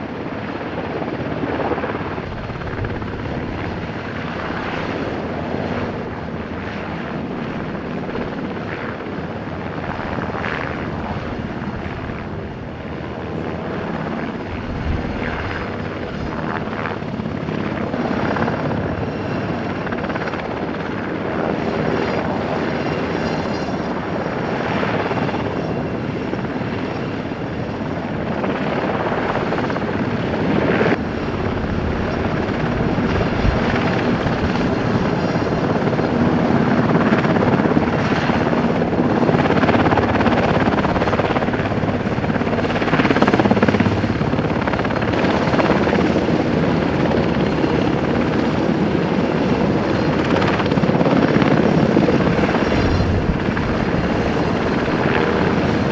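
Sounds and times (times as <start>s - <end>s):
helicopter rotor and engine: 0.0s - 55.9s.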